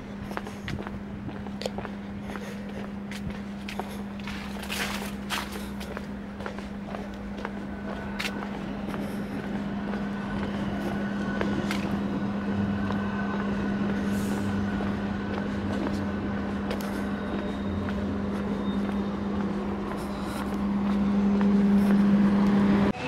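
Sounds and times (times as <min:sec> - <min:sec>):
footsteps on pavement: 0:00.0 - 0:23.0
low vehicle hum: 0:00.0 - 0:23.0.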